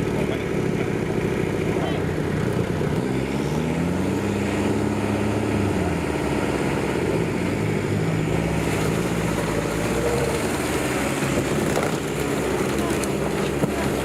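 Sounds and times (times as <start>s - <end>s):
off-road vehicle engine under load: 0.0s - 14.0s.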